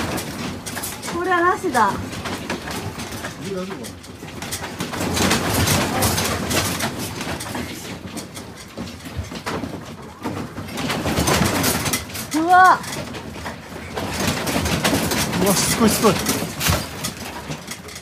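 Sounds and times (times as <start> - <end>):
room rattling and creaking: 0.0 - 18.0.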